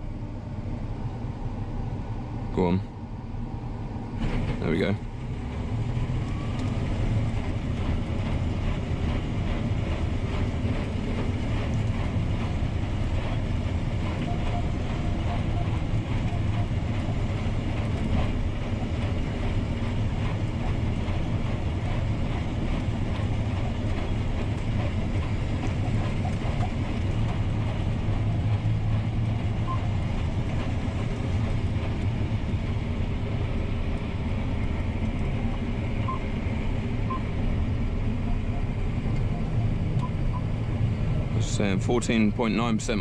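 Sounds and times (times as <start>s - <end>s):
combine harvester running: 0.0s - 43.0s.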